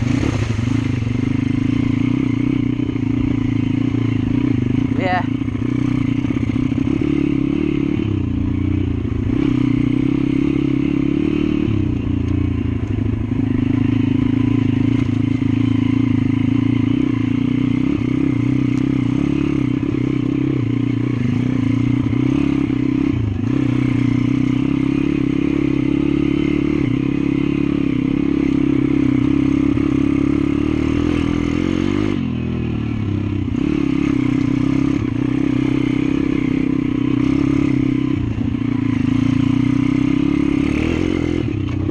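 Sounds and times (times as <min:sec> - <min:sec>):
small motorcycle engine running: 0:00.0 - 0:41.9.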